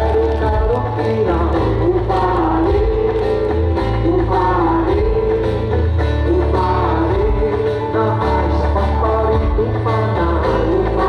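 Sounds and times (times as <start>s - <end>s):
person singing: 0.0s - 11.0s
steady bass line: 0.0s - 11.0s.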